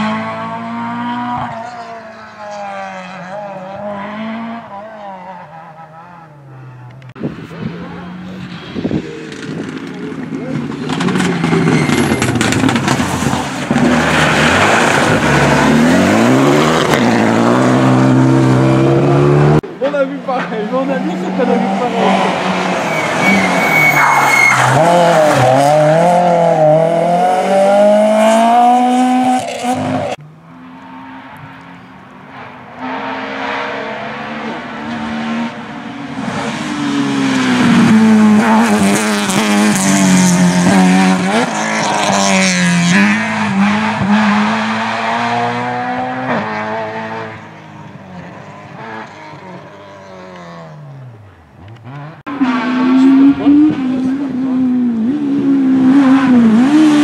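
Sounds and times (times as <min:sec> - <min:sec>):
rally car engine revving: 0:00.0 - 0:57.0
rally car passing: 0:00.0 - 0:57.0.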